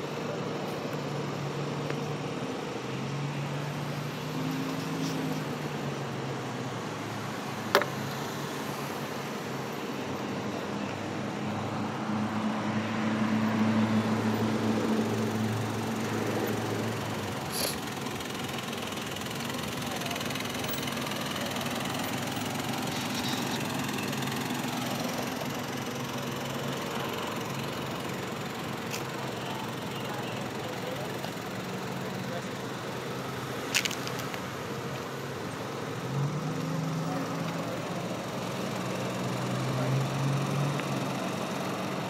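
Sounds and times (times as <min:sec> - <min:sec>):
car engines idling: 0:00.0 - 0:42.0
traffic hum: 0:00.0 - 0:42.0.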